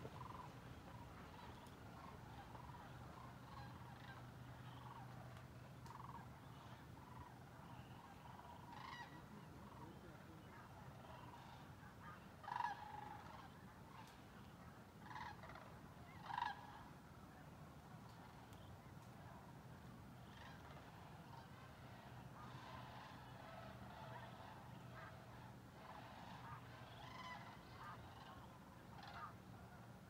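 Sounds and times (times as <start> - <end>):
cranes calling: 0.0 - 14.2, 15.0 - 16.9, 20.2 - 29.5.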